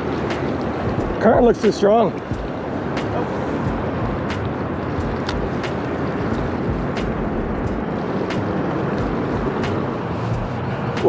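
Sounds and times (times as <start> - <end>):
city traffic rushing: 0.0 - 11.0
wind on microphone: 0.0 - 11.0.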